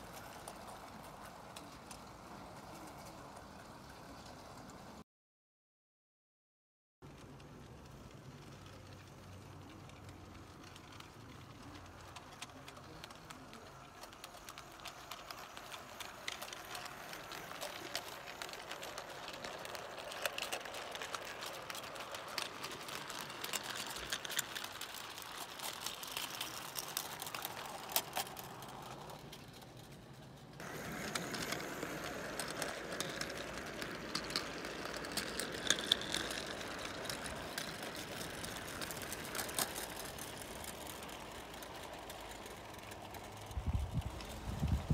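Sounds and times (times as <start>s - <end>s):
model train wheels clicking on rails: 0.0s - 5.0s, 7.0s - 44.9s.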